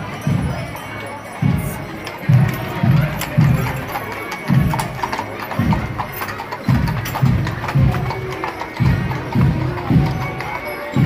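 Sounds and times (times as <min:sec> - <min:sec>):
horse hooves on pavement: 0:00.1 - 0:11.0.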